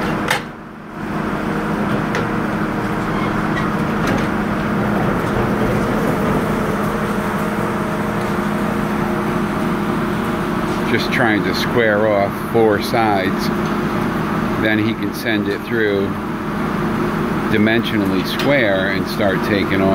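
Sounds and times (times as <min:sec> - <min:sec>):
sawmill machinery humming: 0:00.0 - 0:19.9.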